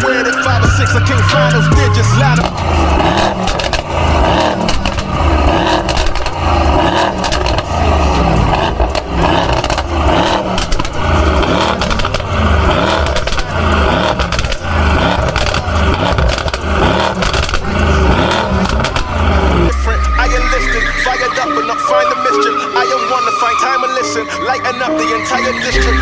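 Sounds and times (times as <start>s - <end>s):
thumping bass beat: 0.0s - 20.7s, 25.8s - 26.0s
car engine and tyre noise: 0.0s - 26.0s
rapid crackles: 0.0s - 26.0s.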